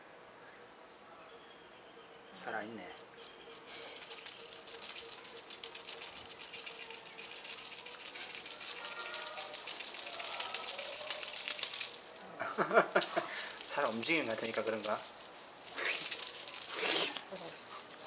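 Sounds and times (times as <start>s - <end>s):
cat toy rattling: 3.0s - 18.0s.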